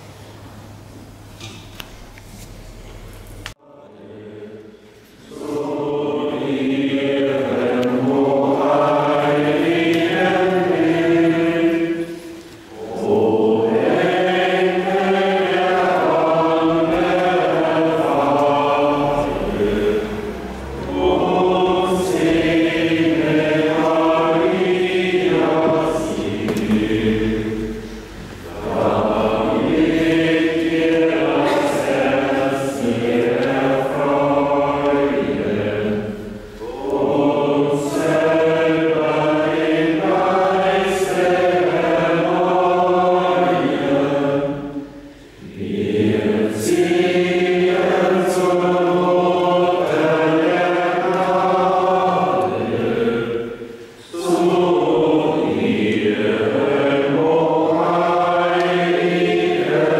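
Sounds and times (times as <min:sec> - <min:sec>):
congregation singing a hymn: 0:03.5 - 0:59.9.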